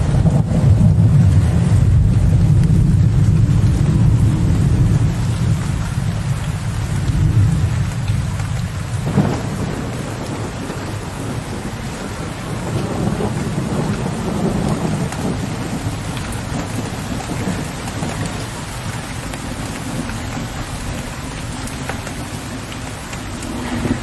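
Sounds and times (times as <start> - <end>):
low rolling thunder: 0.0 - 24.0
steady rain falling: 0.0 - 24.0.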